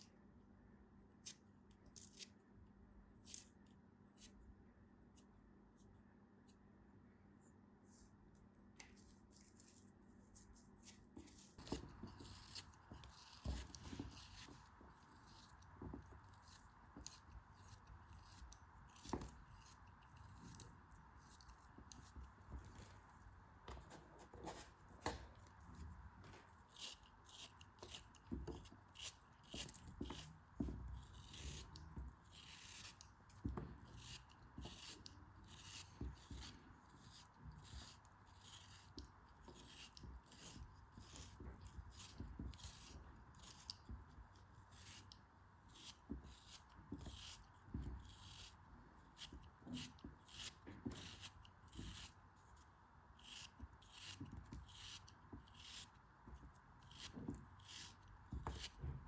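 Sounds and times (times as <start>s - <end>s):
crackling and scraping of material: 1.1s - 4.5s, 7.3s - 59.0s.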